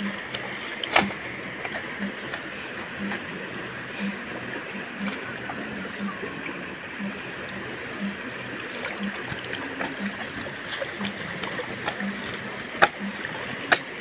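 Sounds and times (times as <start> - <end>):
small water splashes: 0.0 - 14.0
soft low pulse: 0.0 - 14.0
water trickling and dripping: 0.0 - 14.0.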